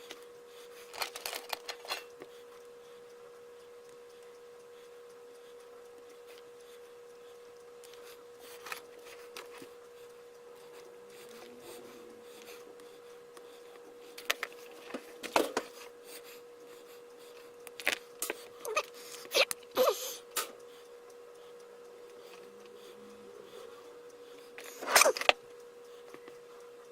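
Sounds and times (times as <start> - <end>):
steady faint hum: 0.0 - 26.9.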